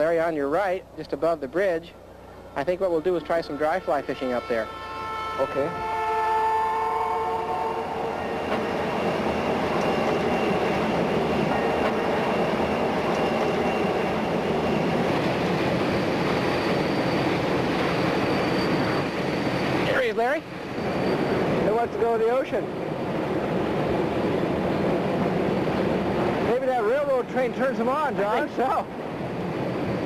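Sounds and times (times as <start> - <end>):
train rumbling across bridge: 0.0 - 30.0.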